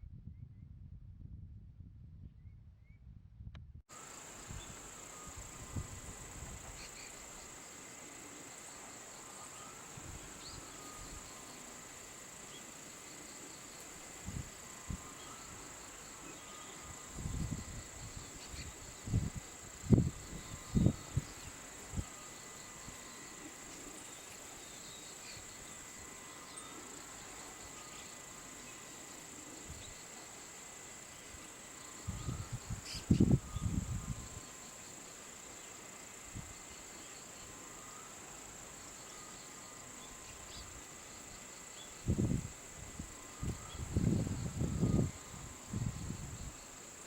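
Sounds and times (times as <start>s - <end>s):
faint chirps: 3.9s - 42.1s
insects trilling: 3.9s - 47.0s.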